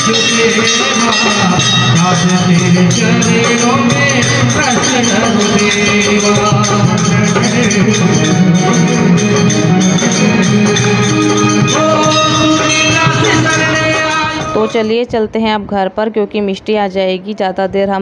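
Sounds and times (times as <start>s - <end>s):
hand drum: 0.0s - 14.8s
man singing through microphone: 0.0s - 15.0s
electronic keyboard: 0.0s - 15.1s.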